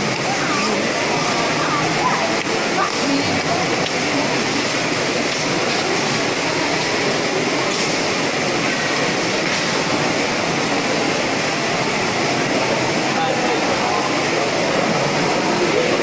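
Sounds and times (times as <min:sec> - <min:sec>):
large crowd din in hall: 0:00.0 - 0:16.0.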